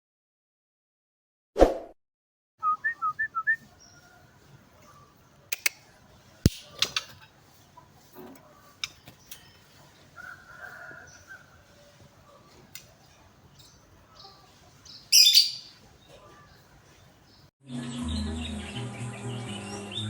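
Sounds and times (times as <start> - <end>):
songbird chirping: 2.6 - 20.0.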